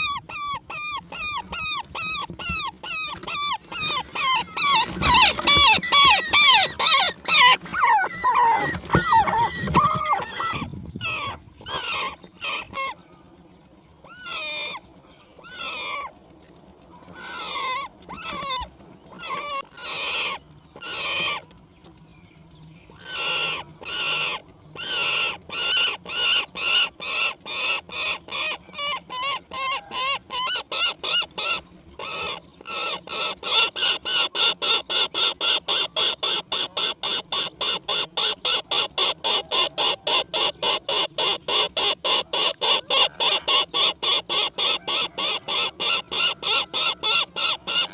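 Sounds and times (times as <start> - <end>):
bird chick calling: 0.0 - 47.9.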